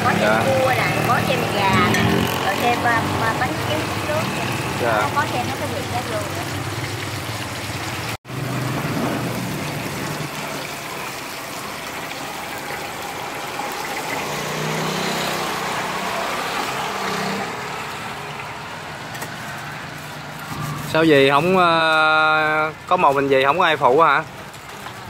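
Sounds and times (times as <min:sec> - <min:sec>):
hot oil sizzling in a frying pan: 0:00.0 - 0:25.0.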